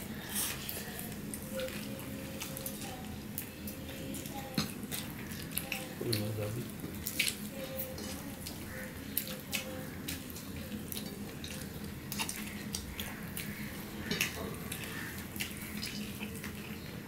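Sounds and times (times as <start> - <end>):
people eating with fingers: 0.0 - 17.0.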